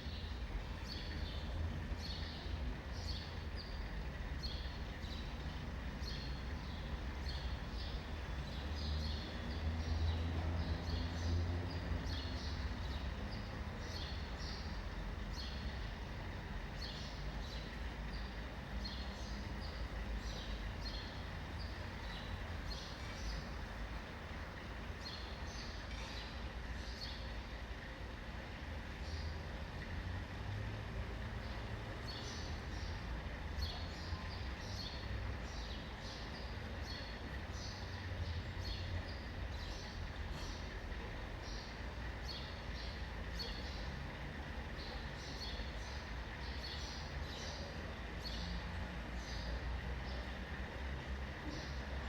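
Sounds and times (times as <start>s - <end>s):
small birds chirping: 0.0s - 27.9s, 31.0s - 52.0s
low rumble of city traffic: 0.0s - 52.0s.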